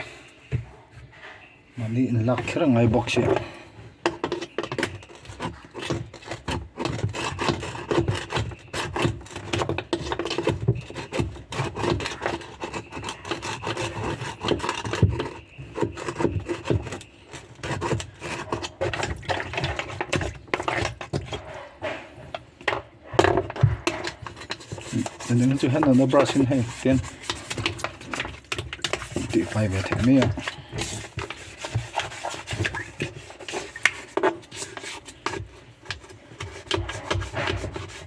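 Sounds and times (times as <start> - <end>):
brush scrubbing: 0.0 - 38.0.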